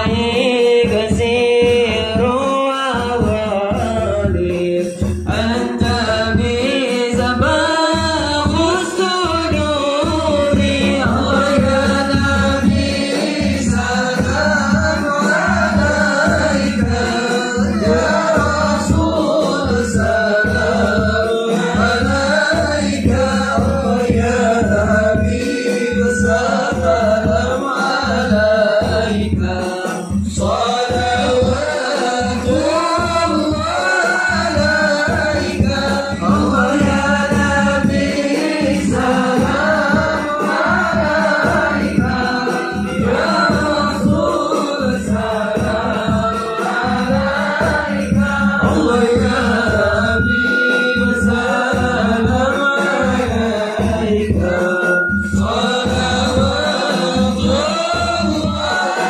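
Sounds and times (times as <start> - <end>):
chanted devotional singing: 0.0 - 59.0
drum beats: 0.0 - 59.0.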